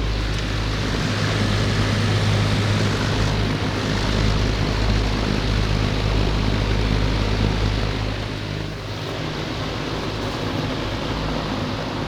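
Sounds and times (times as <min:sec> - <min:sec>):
box fan motor humming: 0:00.0 - 0:12.0.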